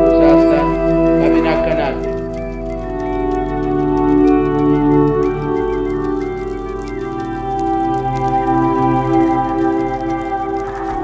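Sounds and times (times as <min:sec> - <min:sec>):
ambient music with held chords: 0:00.0 - 0:11.0.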